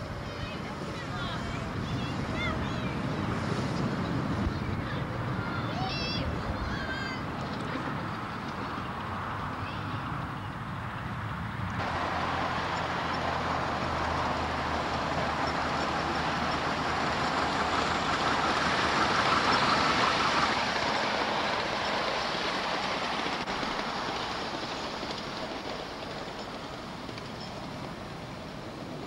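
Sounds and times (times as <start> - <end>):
model steam locomotive passing: 0.0 - 29.0.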